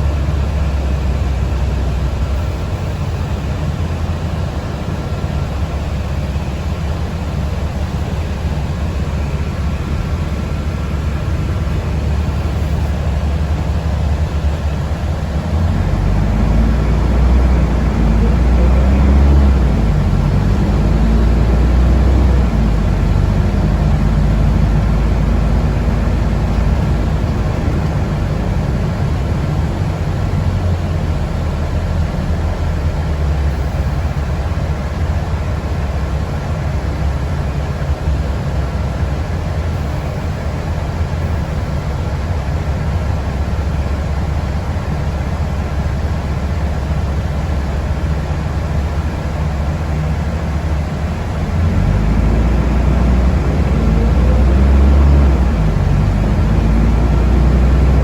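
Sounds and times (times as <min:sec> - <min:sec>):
vehicle rumble from inside cabin: 0:00.0 - 0:58.0.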